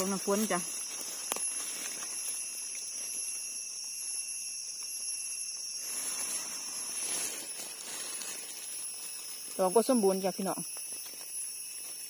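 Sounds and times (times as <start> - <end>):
insects droning: 0.0 - 12.0
rustle of leaves: 0.0 - 12.0.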